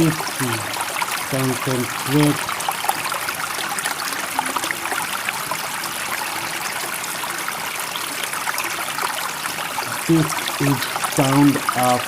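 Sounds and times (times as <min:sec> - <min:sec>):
water trickling and babbling: 0:00.0 - 0:12.0.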